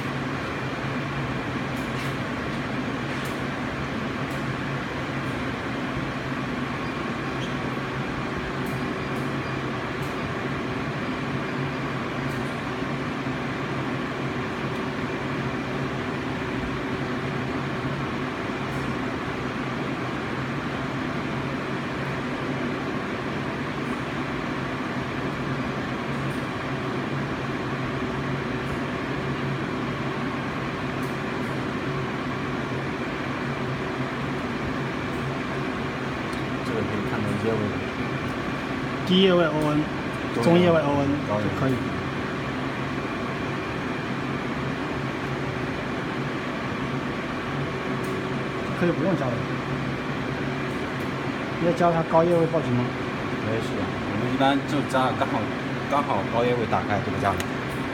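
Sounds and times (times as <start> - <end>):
machinery humming: 0.0 - 57.9.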